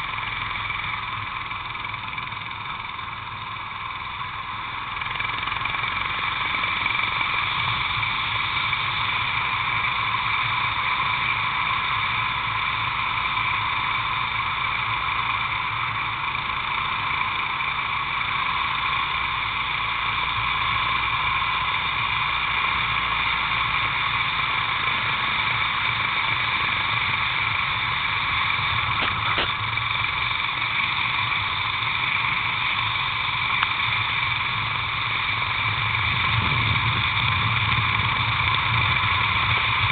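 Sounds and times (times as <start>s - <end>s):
kart engine: 0.0s - 39.9s.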